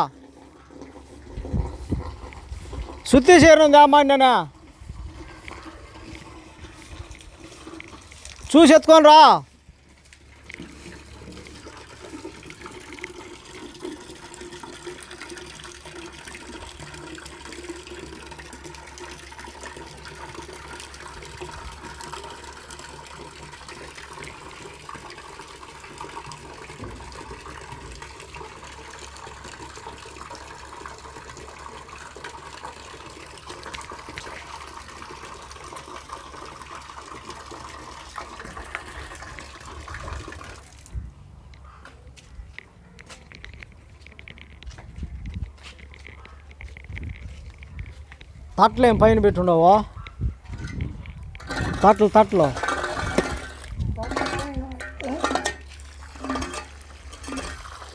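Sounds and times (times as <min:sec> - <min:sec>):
water running from a pipe: 0:00.0 - 0:41.0, 0:50.5 - 0:57.9.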